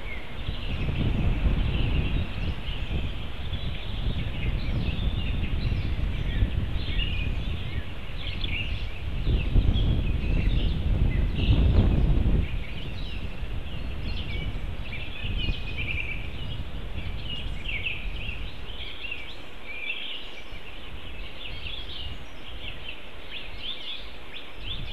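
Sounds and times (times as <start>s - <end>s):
songbirds chirping and trilling: 0.0s - 24.9s.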